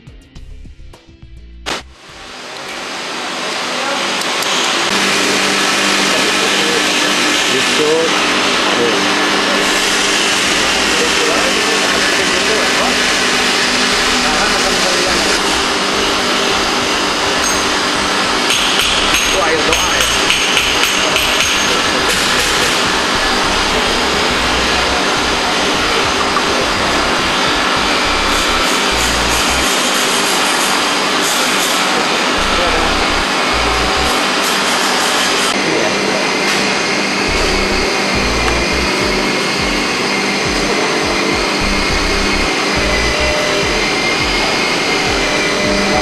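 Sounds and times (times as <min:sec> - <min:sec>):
machine rushing noise: 0:01.7 - 0:46.0.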